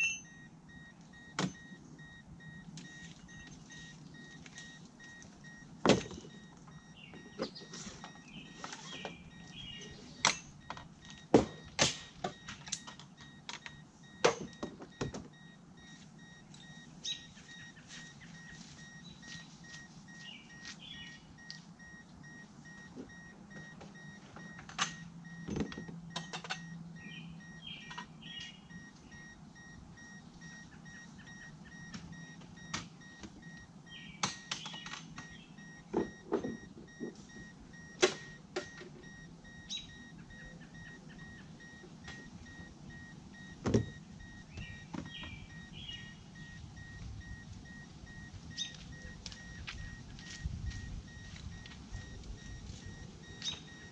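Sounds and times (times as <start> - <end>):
faint electronic beep tone: 0.0 - 53.9.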